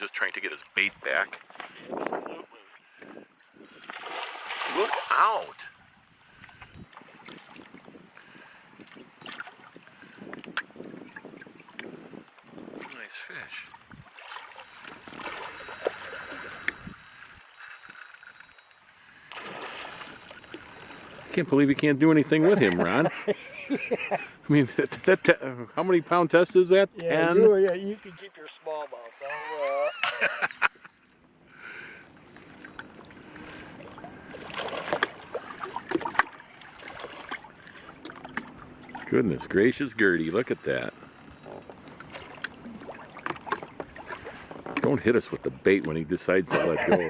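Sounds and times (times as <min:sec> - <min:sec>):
water sloshing around boat: 0:00.0 - 0:25.2, 0:30.0 - 0:47.0.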